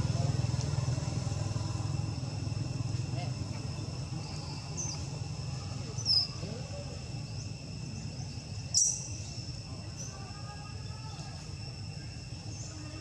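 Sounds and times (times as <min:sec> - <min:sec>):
insects chirring: 0:00.1 - 0:13.0.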